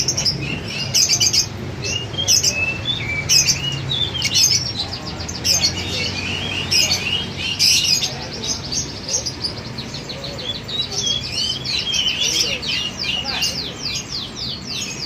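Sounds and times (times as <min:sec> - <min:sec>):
lovebirds chirping: 0:00.0 - 0:15.0
low steady murmur: 0:00.0 - 0:15.0.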